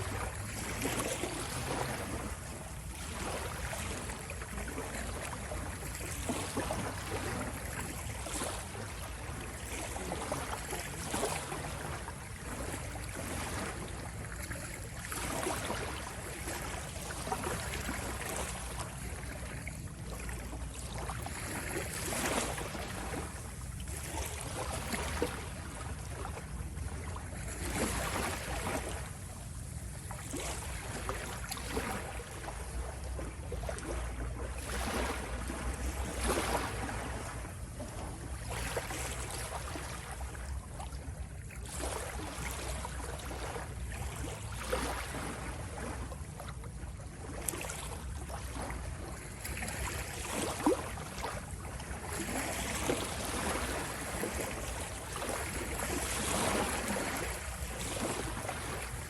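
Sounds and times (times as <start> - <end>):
sea waves splashing: 0.0 - 26.3, 30.0 - 46.1, 47.3 - 59.0.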